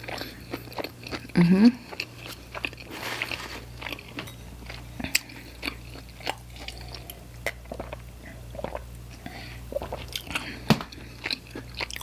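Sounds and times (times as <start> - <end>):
chewing pizza with crisp crunches: 0.0 - 12.0.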